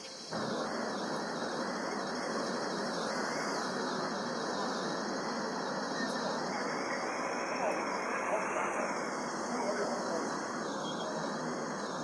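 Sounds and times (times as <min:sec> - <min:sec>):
hum of traffic: 0:00.1 - 0:12.0.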